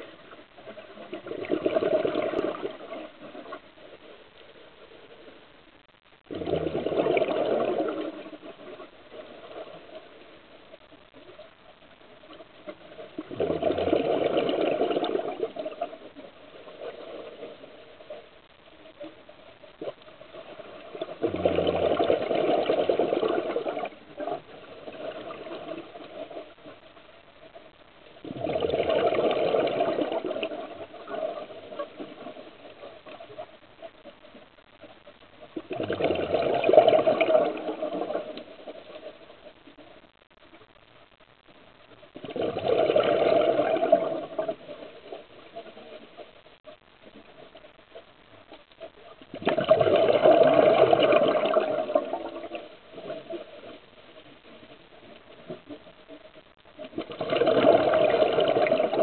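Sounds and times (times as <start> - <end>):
underwater breath bubbles gurgling: 0.0 - 5.3, 6.3 - 11.4, 12.2 - 39.9, 42.2 - 46.4, 49.0 - 59.0.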